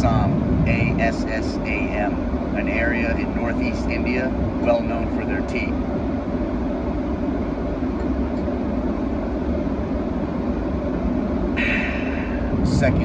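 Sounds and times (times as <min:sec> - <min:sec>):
airliner cabin noise: 0:00.0 - 0:13.0.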